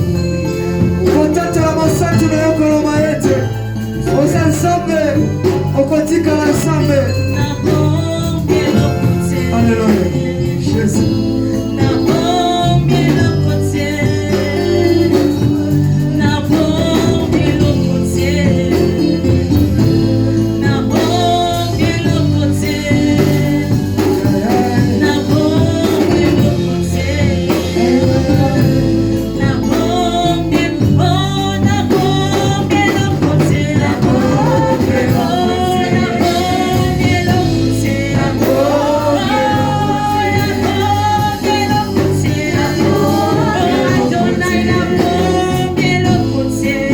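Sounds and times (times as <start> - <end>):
instrumental accompaniment with bass: 0.0 - 46.9
voices singing gospel song: 0.0 - 46.9.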